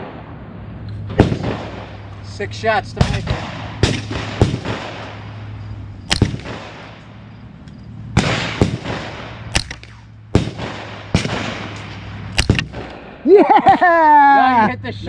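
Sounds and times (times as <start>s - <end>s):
rifle gunshots with echo: 0.0s - 7.3s, 8.1s - 13.2s.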